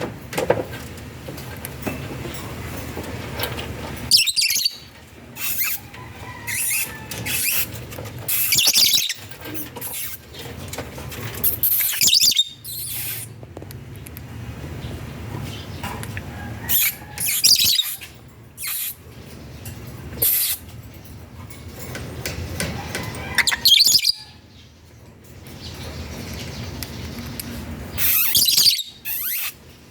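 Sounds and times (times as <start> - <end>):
birds chirping and squeaking: 0.6 - 29.9.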